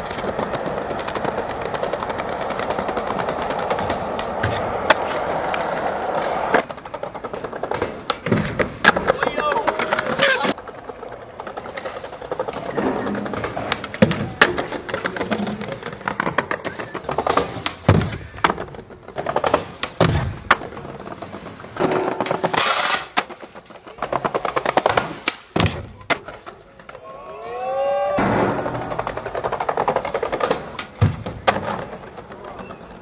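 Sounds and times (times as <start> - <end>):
skateboard hitting ground: 0.0 - 27.0, 28.0 - 32.8
skateboard wheels rolling on stone: 0.0 - 33.0.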